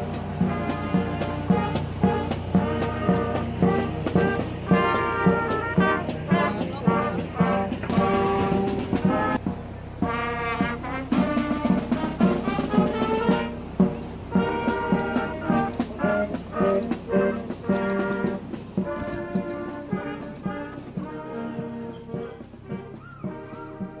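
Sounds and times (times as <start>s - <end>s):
brass band playing: 0.0s - 24.0s
snare and bass drums: 0.0s - 24.0s.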